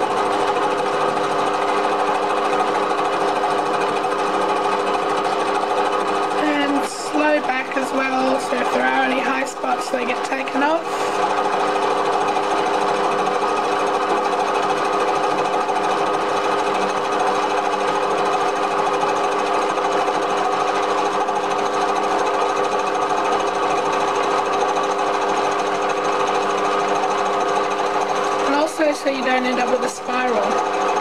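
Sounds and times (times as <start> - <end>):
lathe whining: 0.0 - 31.0.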